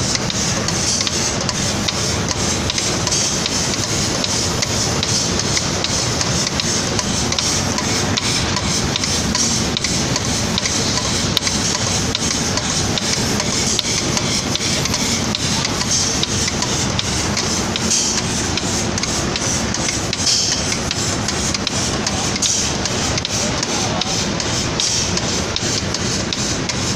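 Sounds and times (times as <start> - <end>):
spraying machine hiss: 0.0 - 26.9.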